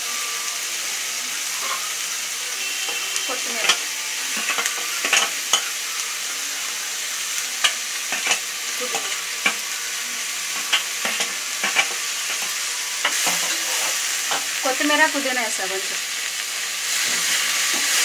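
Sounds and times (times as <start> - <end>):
onions sizzling in ghee: 0.0 - 18.0.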